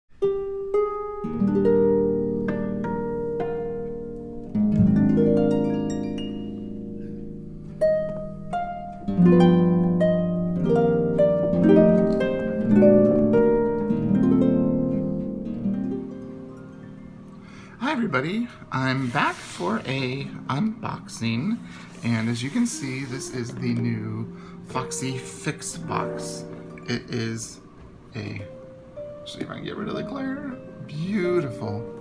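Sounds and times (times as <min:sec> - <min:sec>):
plucked string music: 0:00.1 - 0:32.0.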